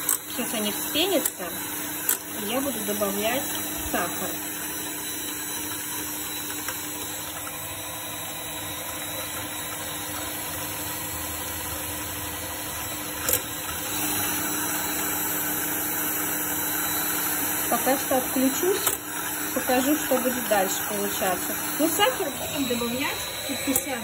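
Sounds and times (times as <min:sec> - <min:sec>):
electric mixer whisking in a bowl: 0:00.0 - 0:24.0.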